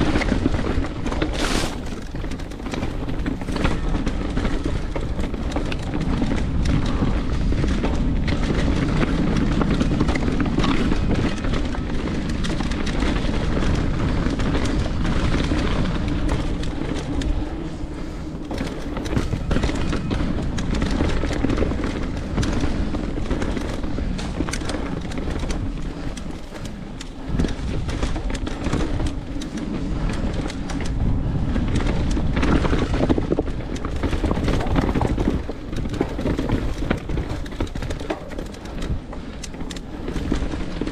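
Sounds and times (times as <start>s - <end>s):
bike knocking and rattling: 0.0s - 40.9s
tyres rumbling over dirt and rock: 0.0s - 40.9s
wind buffeting microphone: 0.0s - 40.9s.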